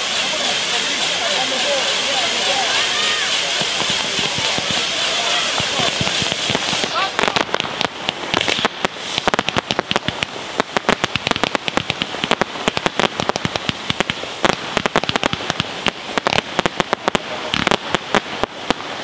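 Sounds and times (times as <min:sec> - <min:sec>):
fireworks cracks and bangs: 0:00.0 - 0:19.0.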